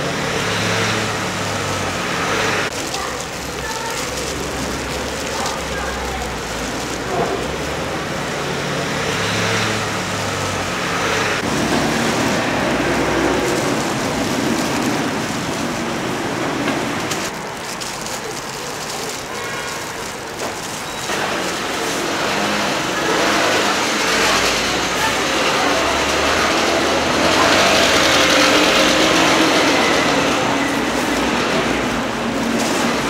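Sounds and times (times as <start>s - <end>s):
busy market background noise: 0.0s - 33.0s.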